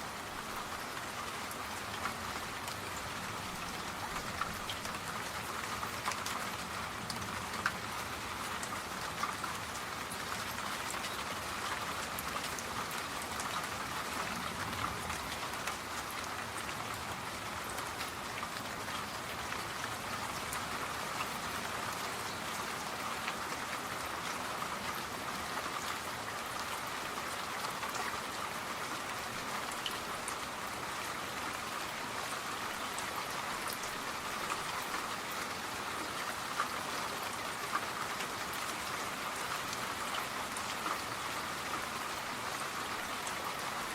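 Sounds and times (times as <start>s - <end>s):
steady rain: 0.0s - 43.9s.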